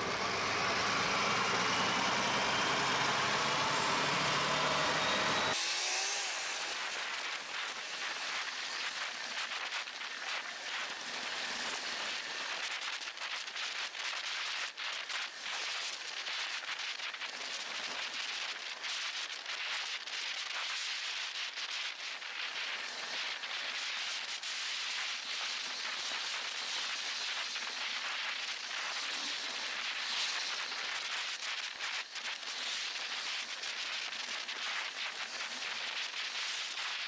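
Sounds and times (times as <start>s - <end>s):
road vibration crackles: 0.0s - 37.0s.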